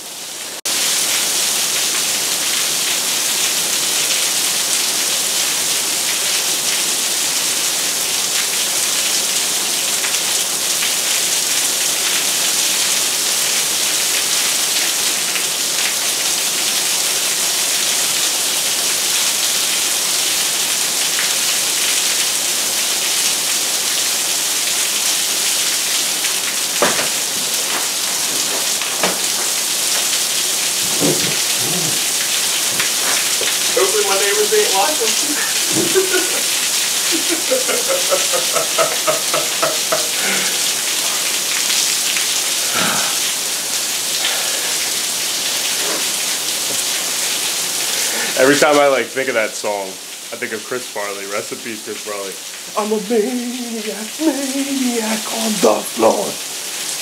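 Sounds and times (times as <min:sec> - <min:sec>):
heavy rain pouring: 0:00.0 - 0:57.0
water spilling over gutters: 0:00.0 - 0:57.0.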